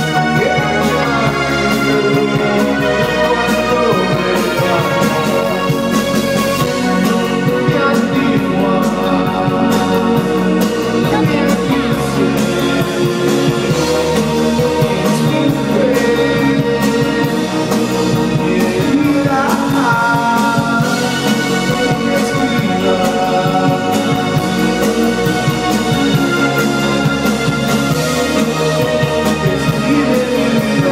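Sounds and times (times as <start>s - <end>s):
person singing: 0.0s - 26.2s, 27.9s - 30.9s
drum beat: 0.0s - 30.9s
live band playing: 0.0s - 30.9s.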